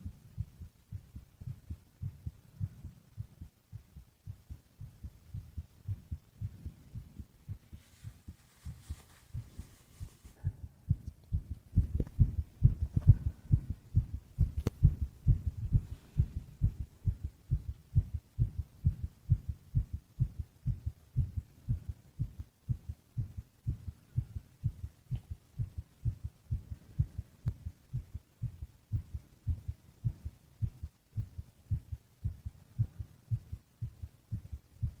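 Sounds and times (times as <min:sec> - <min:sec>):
heartbeat thumps: 0:00.0 - 0:35.0.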